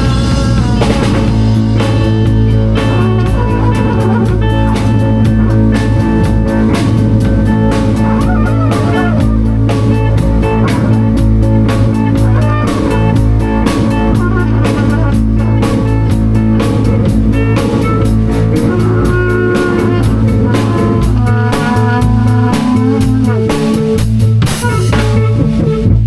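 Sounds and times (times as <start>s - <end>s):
drum kit beat: 0.0s - 26.0s
electric guitar playing: 0.0s - 26.0s.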